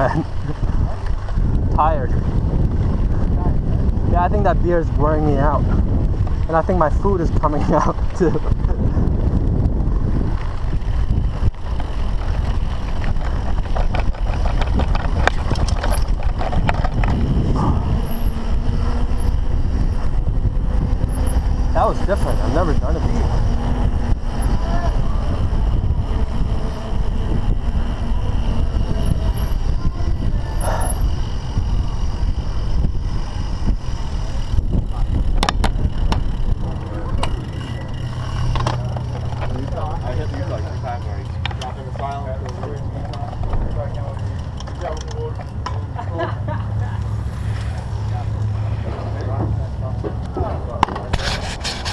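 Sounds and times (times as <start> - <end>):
bike rattling and knocking: 0.0 - 51.9
wind rumble on microphone: 0.0 - 51.9.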